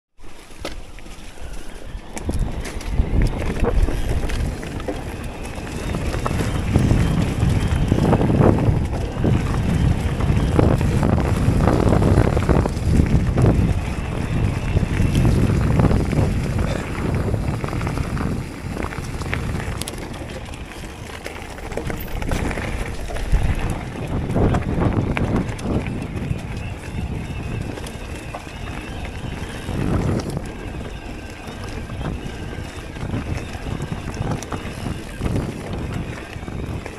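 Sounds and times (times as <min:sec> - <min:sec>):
tyres rumbling over dirt: 0:00.2 - 0:36.9
wind rushing over microphone: 0:00.5 - 0:36.9
bike knocks and rattles: 0:02.1 - 0:36.9.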